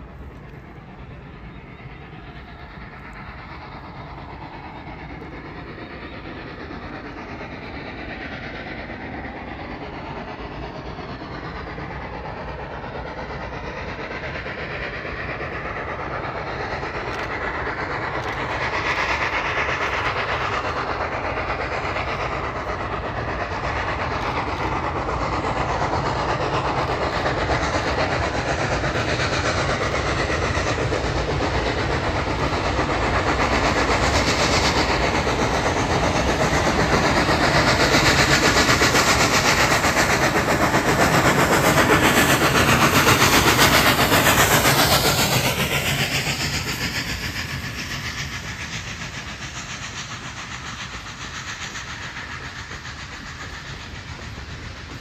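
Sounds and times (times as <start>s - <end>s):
train running on rails: 0.0s - 55.0s.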